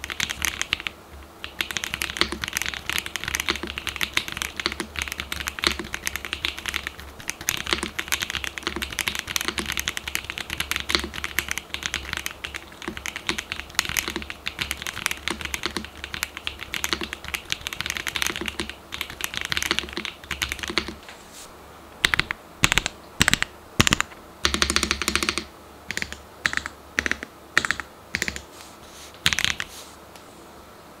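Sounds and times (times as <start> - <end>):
mechanical keyboard typing: 0.0 - 21.0, 22.0 - 28.5, 29.2 - 29.7.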